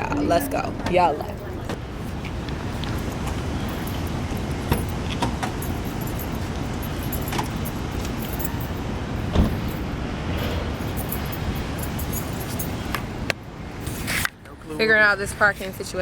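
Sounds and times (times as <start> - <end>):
car engine rumble: 0.0 - 13.8.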